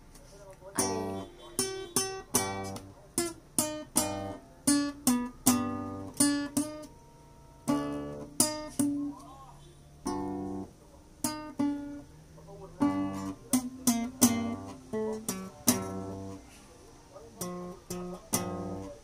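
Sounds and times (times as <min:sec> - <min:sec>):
classical acoustic guitar: 0:00.0 - 0:19.0.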